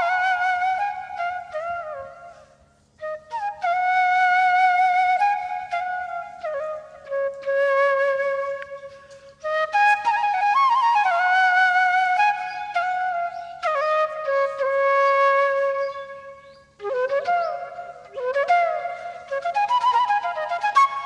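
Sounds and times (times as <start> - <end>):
solo flute melody: 0.0 - 21.0.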